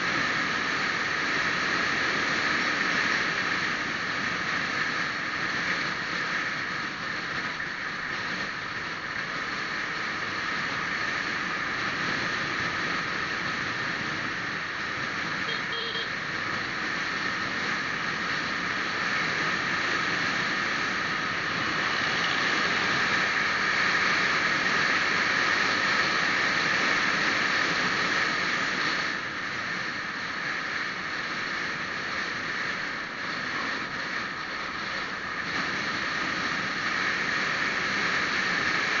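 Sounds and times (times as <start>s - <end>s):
road and wind noise of vehicle: 0.0s - 39.0s.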